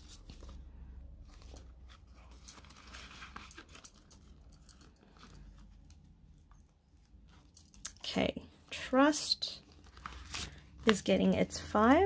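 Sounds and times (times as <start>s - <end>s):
banknotes rustling and crinkling: 0.0s - 12.0s.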